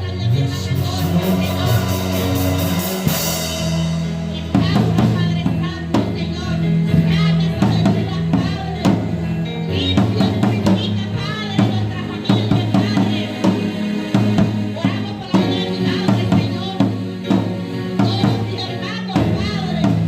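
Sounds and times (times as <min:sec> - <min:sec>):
drum kit beat: 0:00.0 - 0:20.0
worship music: 0:00.0 - 0:20.0.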